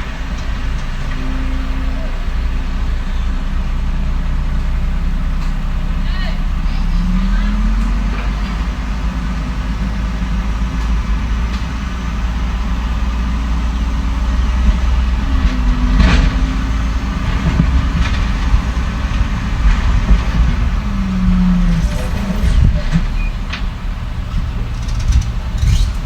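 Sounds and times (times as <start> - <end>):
diesel machinery engine rumbling: 0.0 - 26.0.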